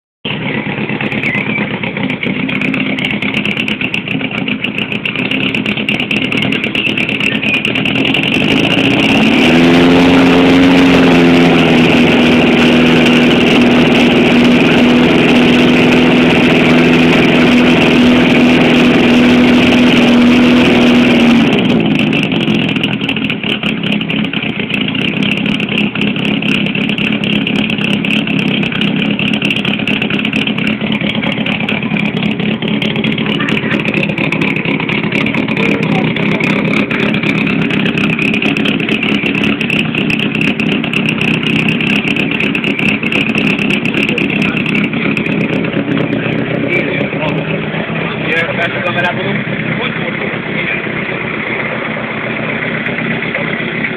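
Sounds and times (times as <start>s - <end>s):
car engine idling and revving: 0.2s - 53.9s.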